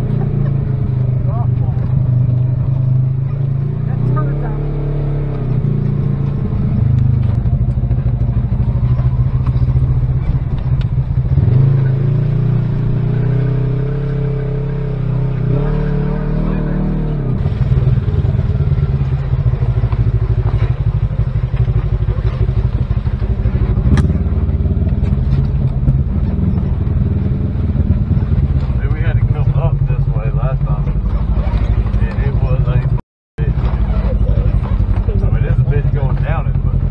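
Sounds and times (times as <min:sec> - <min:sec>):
utility vehicle engine running: 0:00.0 - 0:36.9.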